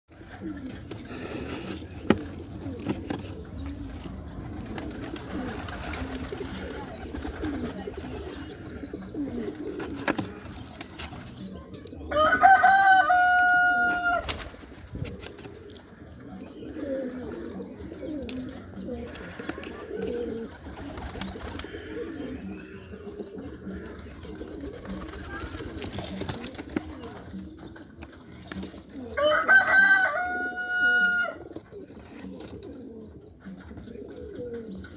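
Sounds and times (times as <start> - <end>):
pigeons cooing: 0.1 - 34.9.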